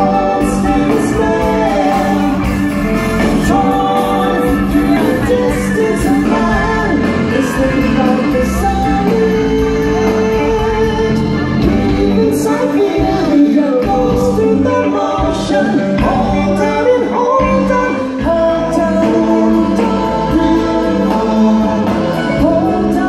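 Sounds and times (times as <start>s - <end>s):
drums and cymbals: 0.0s - 23.0s
lead singer singing: 0.0s - 23.0s
live band playing loud music: 0.0s - 23.0s.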